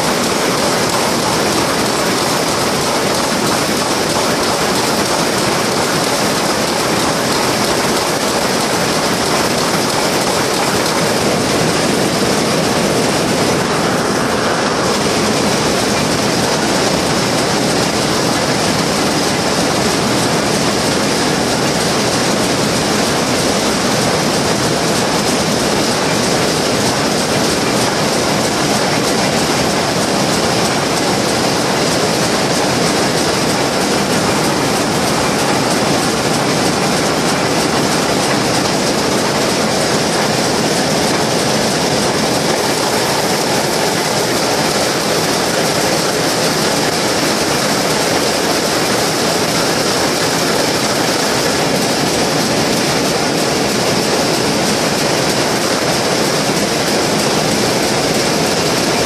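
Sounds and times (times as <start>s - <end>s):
looms clattering: 0.0s - 59.0s.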